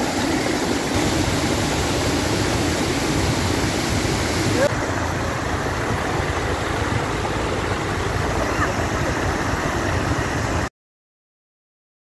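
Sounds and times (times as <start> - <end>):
water rushing into tank: 0.0 - 10.7.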